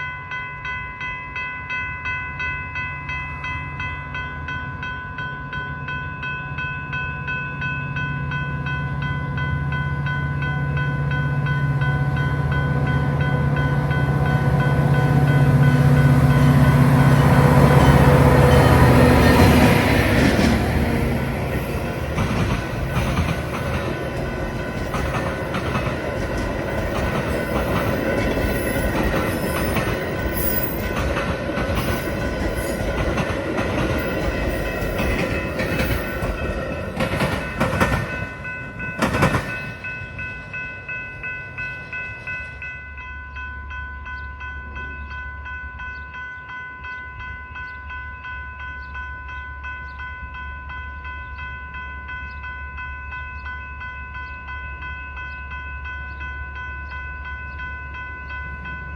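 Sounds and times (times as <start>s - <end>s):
crossing bell ringing: 0.0s - 58.9s
train passing with rail clatter: 0.0s - 58.9s.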